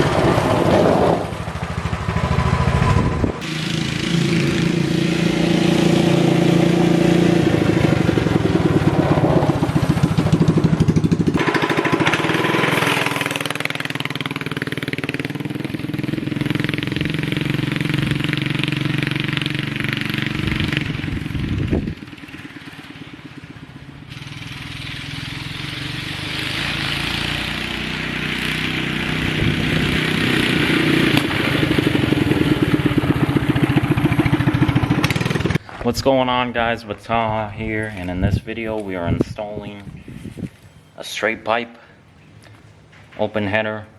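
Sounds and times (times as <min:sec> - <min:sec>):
minibike engine running: 0:00.0 - 0:35.6.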